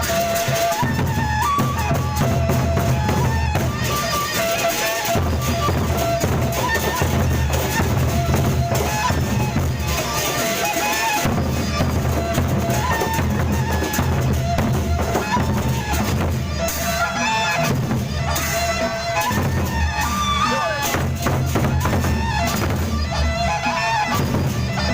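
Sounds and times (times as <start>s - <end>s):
high wind instrument melody: 0.0s - 24.9s
large drums beating: 0.0s - 24.9s.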